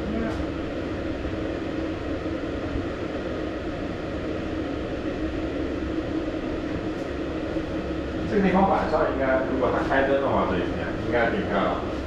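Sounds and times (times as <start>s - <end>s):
cable car humming and rumbling: 0.0s - 12.0s.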